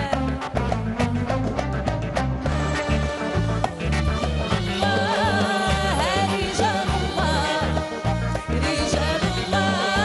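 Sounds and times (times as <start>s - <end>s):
pulsing bass line: 0.0s - 10.0s.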